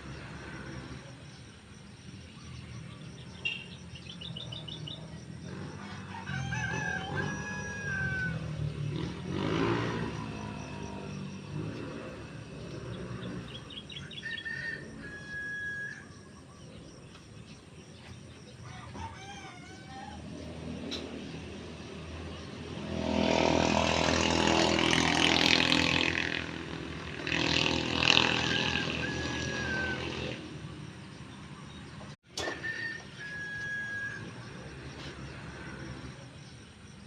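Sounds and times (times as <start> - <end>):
birds calling and chirping: 0.0 - 37.0.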